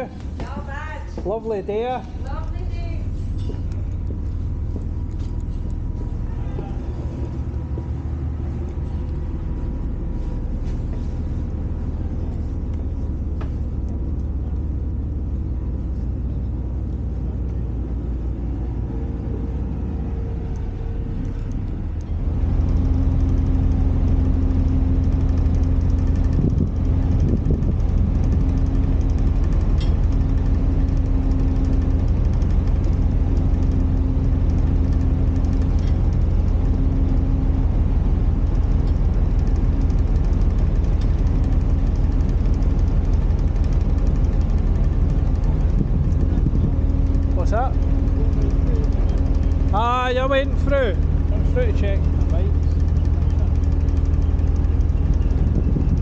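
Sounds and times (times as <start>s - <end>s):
ferry engines rumbling: 0.0s - 56.0s
steady hum: 0.0s - 56.0s.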